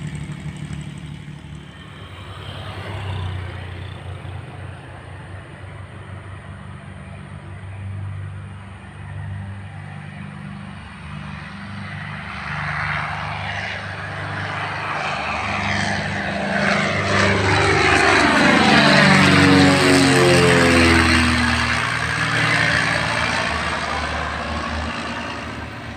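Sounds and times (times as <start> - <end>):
airliner passing with whoosh: 0.0 - 25.9
low engine hum: 0.0 - 25.9.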